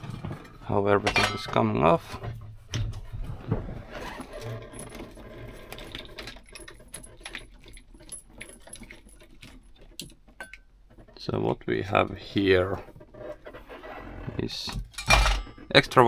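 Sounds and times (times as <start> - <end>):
wires rustling and clicking: 0.0 - 16.0.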